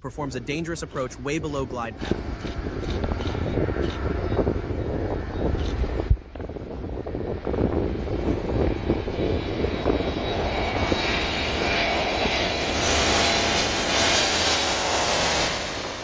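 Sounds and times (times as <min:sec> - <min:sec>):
high engine whine: 0:00.0 - 0:16.0
jet airliner engines overhead: 0:00.0 - 0:16.0.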